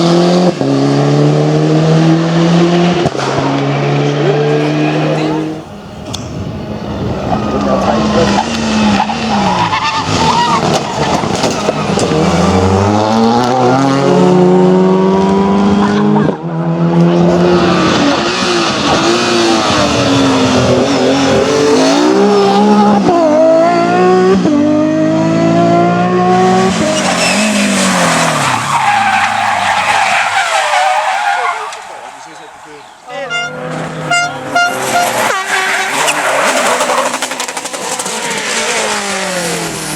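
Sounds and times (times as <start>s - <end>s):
tyres skidding: 0.0s - 16.3s, 16.9s - 39.9s
rally car engine revving: 0.0s - 39.9s.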